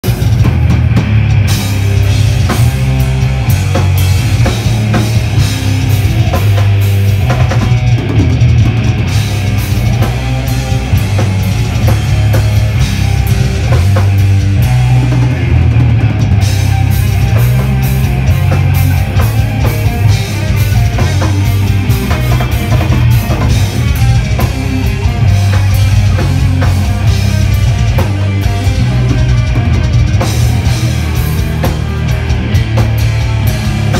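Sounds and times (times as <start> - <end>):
metal band playing live: 0.0 - 33.9.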